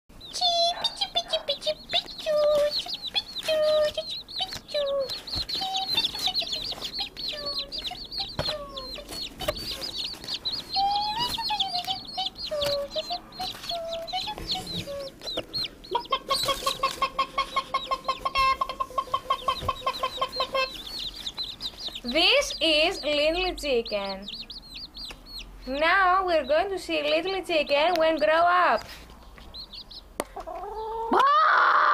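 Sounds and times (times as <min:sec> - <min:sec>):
chicks peeping: 0:00.1 - 0:31.2
lower wavering calls: 0:00.3 - 0:27.7.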